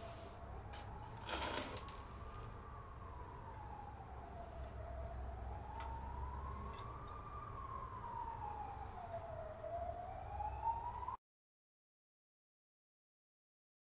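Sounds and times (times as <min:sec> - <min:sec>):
emergency vehicle siren wailing: 0:00.0 - 0:11.2.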